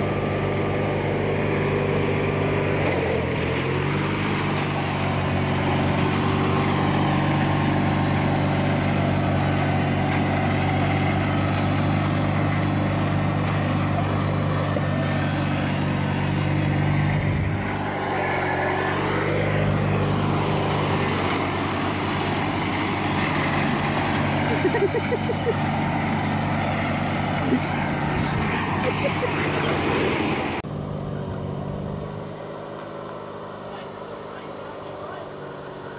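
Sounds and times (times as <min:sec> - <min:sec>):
lawn tractor engine running: 0:00.0 - 0:35.9.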